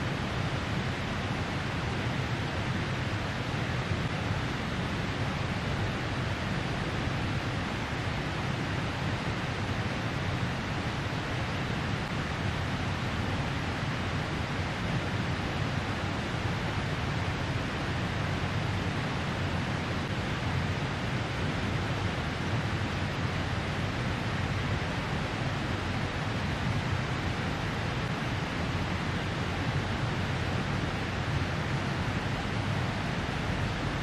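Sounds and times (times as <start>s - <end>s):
outdoor ambience rushing noise: 0.0s - 34.0s.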